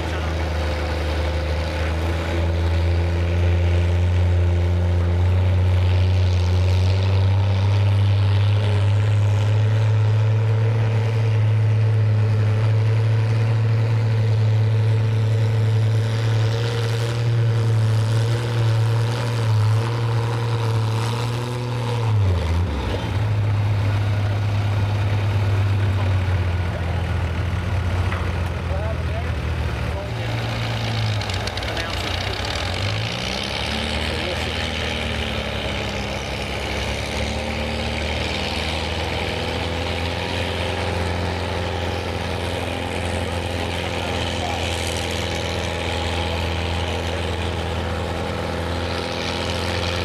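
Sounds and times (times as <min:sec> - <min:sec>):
tractor engine under full load: 0:00.0 - 0:50.0.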